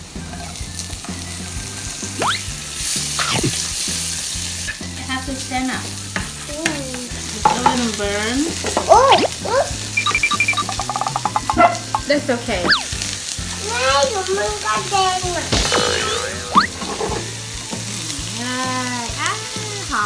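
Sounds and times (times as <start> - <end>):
food sizzling in a frying pan: 0.0 - 20.0
spatula stir-frying: 0.0 - 20.0.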